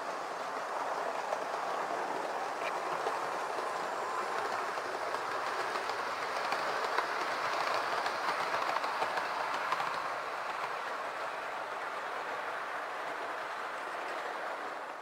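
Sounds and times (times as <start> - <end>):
wheels clicking over rail joints: 0.0 - 14.9
model train motors whirring: 0.0 - 15.0.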